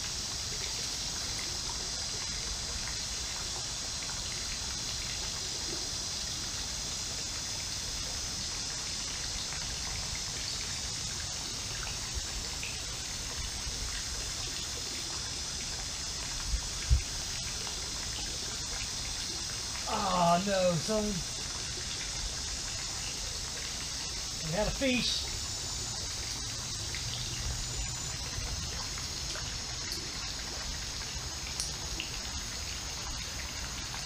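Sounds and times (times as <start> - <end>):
creek water trickling: 0.0 - 34.0.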